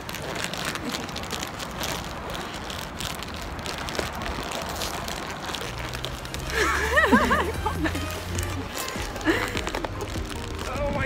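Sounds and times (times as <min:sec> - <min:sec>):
passing road traffic: 0:00.0 - 0:11.0
small crackles: 0:00.0 - 0:11.0.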